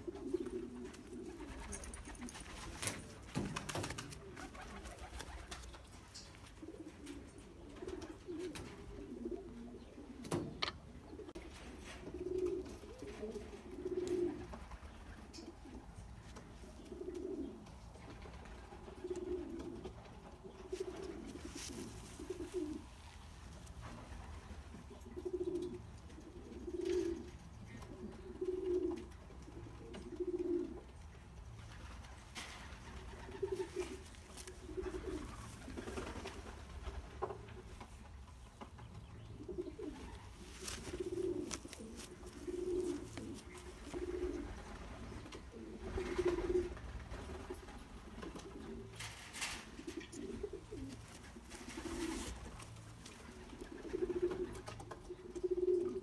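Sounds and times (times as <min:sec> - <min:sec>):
pigeons cooing: 0:00.0 - 0:38.2, 0:39.0 - 0:56.0.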